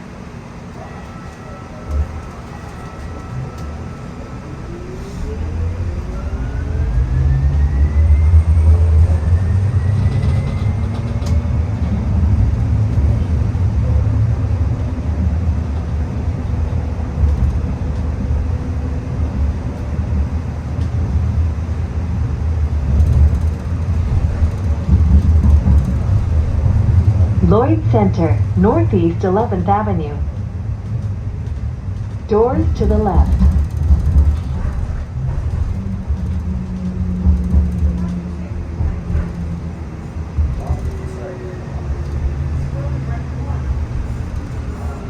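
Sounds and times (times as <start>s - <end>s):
train wheels rumbling on rails: 0.0s - 29.6s, 30.2s - 45.0s.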